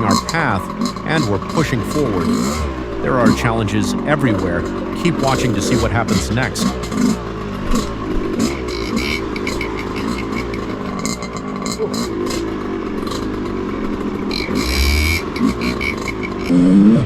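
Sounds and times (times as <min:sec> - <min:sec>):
knocks and clatter: 0:00.0 - 0:16.5
dirt bike engine revving: 0:00.0 - 0:17.0.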